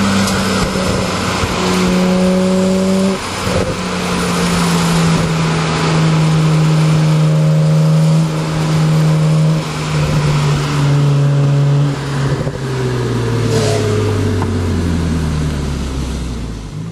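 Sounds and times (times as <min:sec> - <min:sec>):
car engine revving high: 0:00.0 - 0:16.9.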